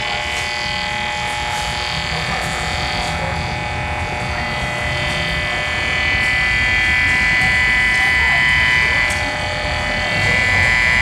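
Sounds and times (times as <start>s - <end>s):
electronic buzzing hum of lamps: 0.0s - 11.0s.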